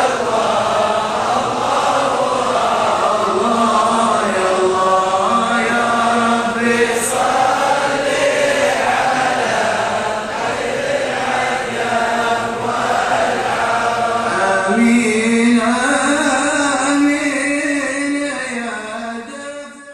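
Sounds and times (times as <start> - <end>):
men chanting together: 0.0 - 19.3.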